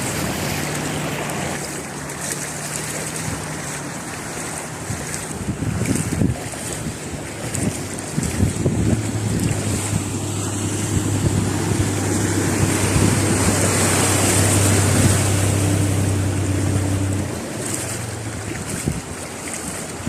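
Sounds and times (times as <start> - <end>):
heavy rain: 0.0 - 20.0
wind buffeting microphone: 0.0 - 20.0.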